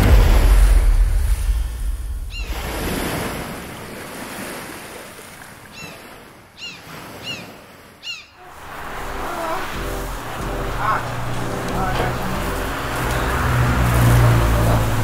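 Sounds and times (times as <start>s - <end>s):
sea surf washing: 0.0s - 15.0s.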